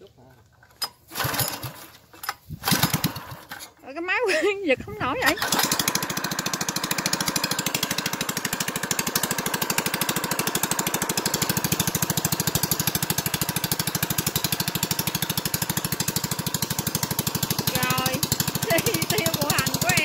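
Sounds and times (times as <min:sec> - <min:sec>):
small gasoline engine running: 0:00.9 - 0:03.8, 0:05.0 - 0:20.0.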